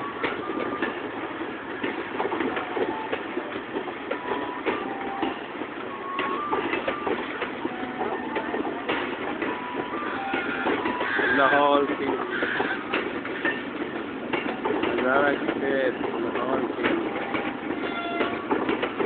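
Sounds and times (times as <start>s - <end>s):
train wheels rattling: 0.0s - 19.0s.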